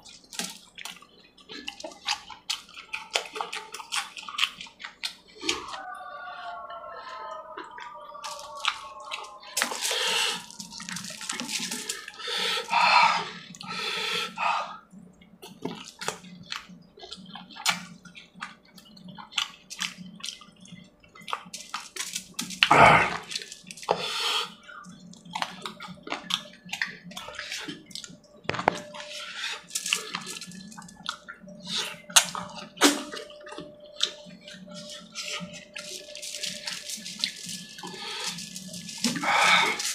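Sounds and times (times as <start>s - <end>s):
lip smacks and chewing: 0.0s - 39.9s.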